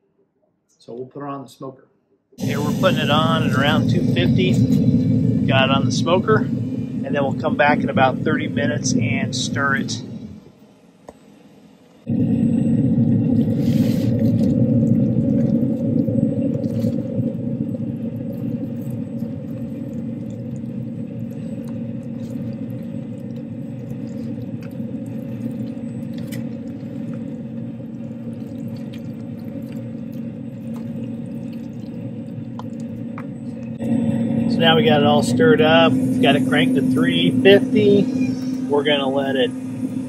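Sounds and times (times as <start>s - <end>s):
grill fan humming: 2.4s - 40.0s.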